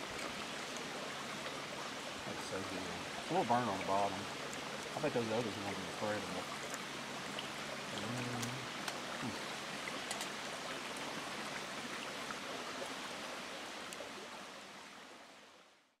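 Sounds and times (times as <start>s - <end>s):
creek water running: 0.0s - 15.8s.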